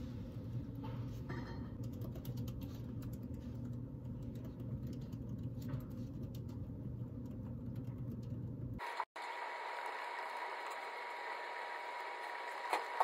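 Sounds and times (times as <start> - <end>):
laptop fan whirring: 1.8 - 13.0.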